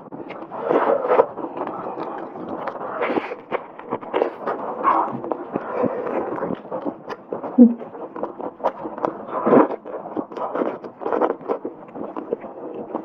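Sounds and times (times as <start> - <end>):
chewing and wet smacking: 0.2 - 13.0.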